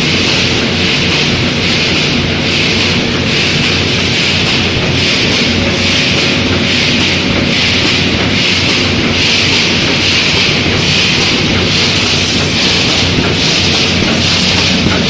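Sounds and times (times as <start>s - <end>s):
steady electrical hum: 0.0s - 15.0s
welding machine hissing clatter: 0.0s - 15.0s.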